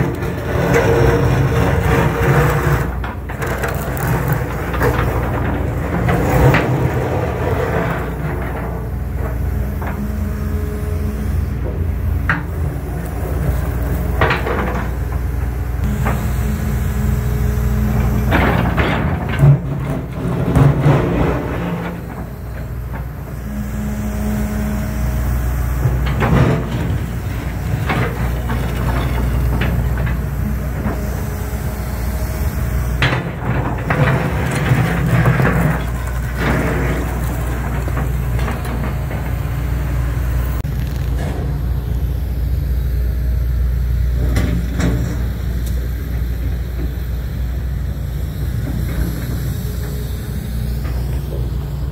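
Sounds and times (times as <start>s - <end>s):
excavator diesel engine hum: 0.0s - 51.9s.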